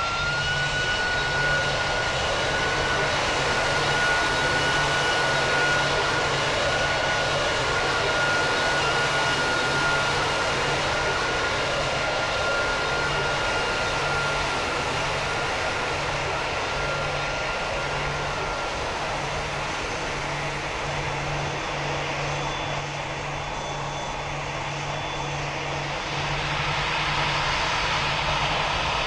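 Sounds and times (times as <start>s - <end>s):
aircraft engines running: 0.0s - 29.0s
engine high whine: 0.0s - 29.0s.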